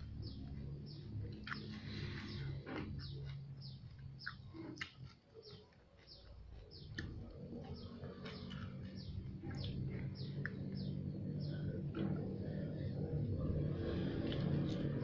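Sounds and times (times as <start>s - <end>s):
low hum: 0.0s - 5.0s, 6.3s - 15.0s
small bird chirping: 0.0s - 15.0s.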